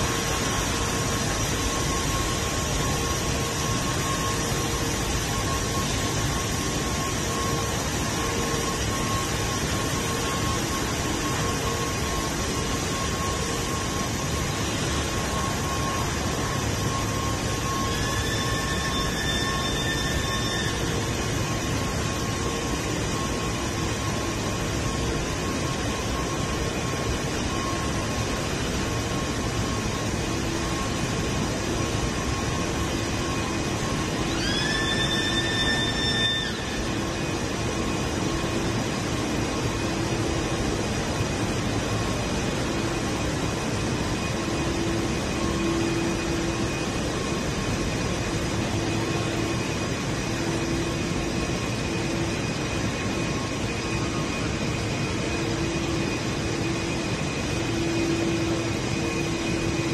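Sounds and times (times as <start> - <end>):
factory machinery running: 0.0 - 59.9
faint hum of fans and motors: 0.0 - 59.9.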